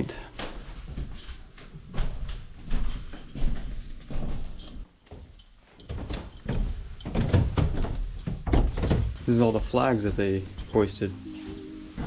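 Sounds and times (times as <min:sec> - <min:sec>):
footsteps on wooden staircase: 0:00.4 - 0:10.8.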